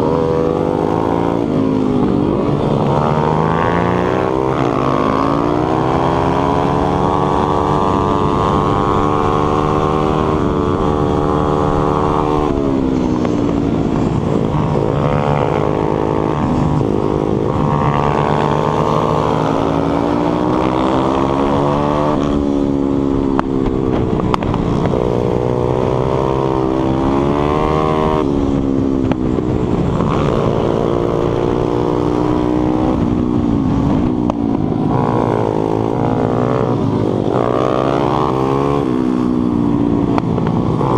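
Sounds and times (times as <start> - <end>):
motorcycle engine revving: 0.0 - 40.9
wind rumble on microphone: 0.0 - 40.9.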